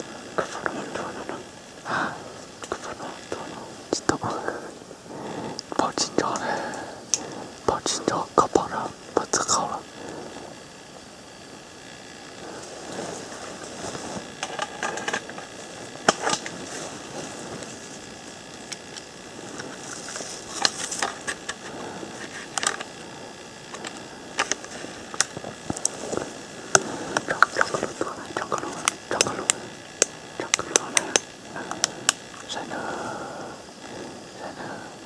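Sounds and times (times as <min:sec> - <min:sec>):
leaves and twigs crackling: 0:00.0 - 0:32.6
steady hiss: 0:00.0 - 0:35.0.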